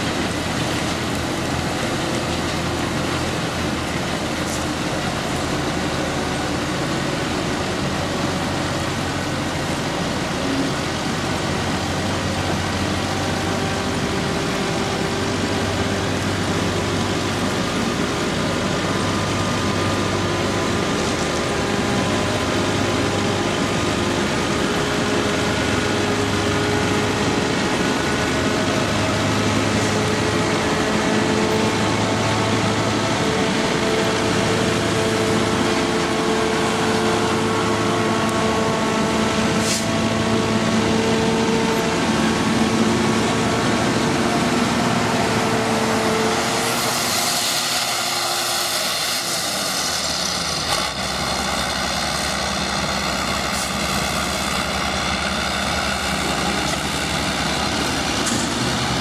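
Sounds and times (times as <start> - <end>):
truck engine running: 0.0 - 59.0
steady shifting tones: 11.4 - 59.0.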